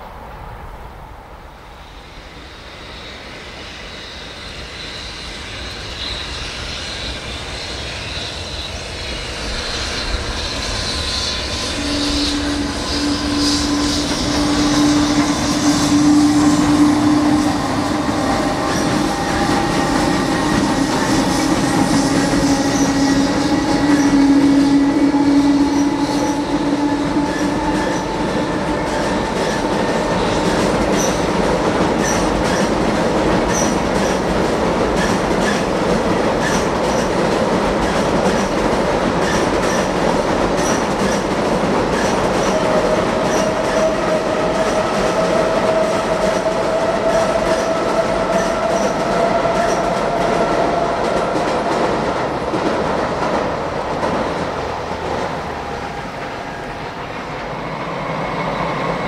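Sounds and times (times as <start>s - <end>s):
clicking train wheels: 3.2s - 59.0s.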